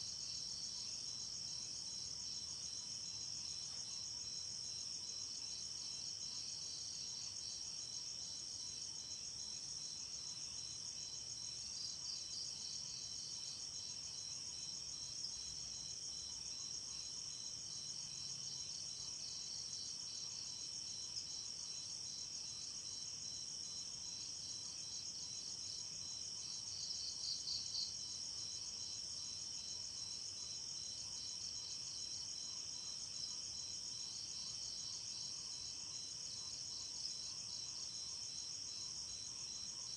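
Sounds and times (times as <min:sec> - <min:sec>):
fast cricket chirps: 0:00.0 - 0:39.9.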